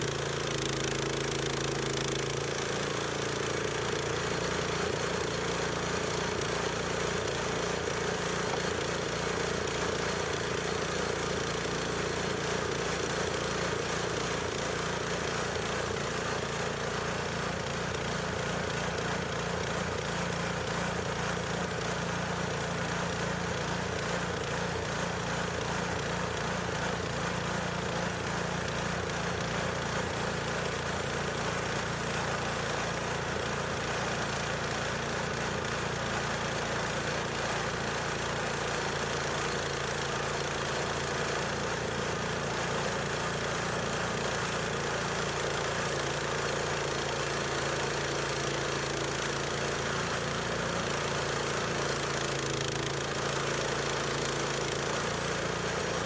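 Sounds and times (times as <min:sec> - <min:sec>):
bandsaw sawmill cutting wood: 0:00.0 - 0:56.0.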